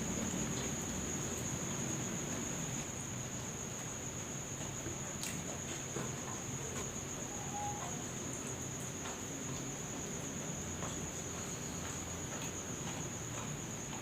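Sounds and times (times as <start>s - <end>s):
cricket trilling: 0.0s - 14.0s.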